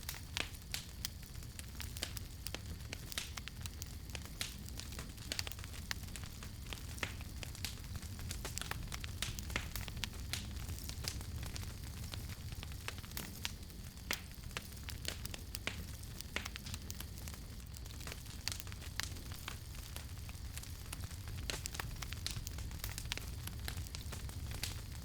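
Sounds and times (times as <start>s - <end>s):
campfire crackling and popping: 0.0s - 25.0s
low rumble of flames: 0.0s - 25.0s.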